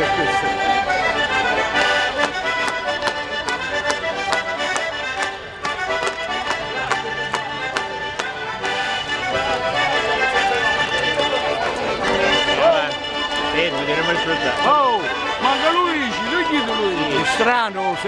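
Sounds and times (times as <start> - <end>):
accordions playing folk dance tune: 0.0 - 18.0.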